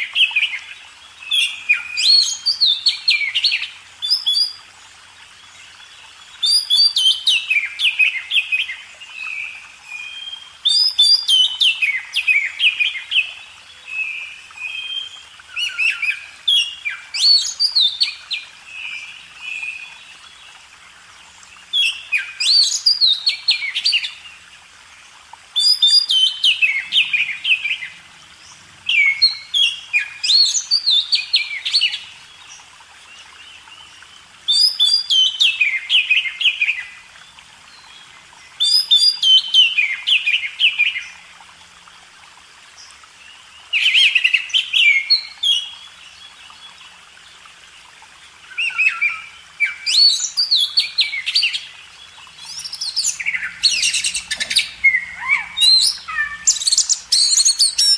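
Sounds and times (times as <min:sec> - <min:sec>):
songbird singing: 0:00.0 - 0:41.4, 0:42.7 - 0:57.9.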